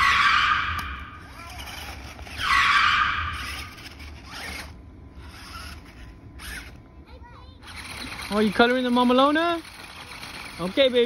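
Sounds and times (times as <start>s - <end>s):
toy truck electric motor whirring: 0.0s - 6.8s, 7.5s - 11.0s.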